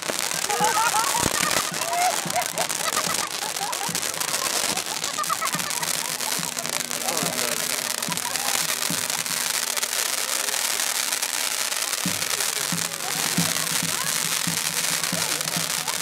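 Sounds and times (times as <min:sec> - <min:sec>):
faint voices: 0:00.0 - 0:16.0
firework fountains hissing and crackling: 0:00.0 - 0:16.0.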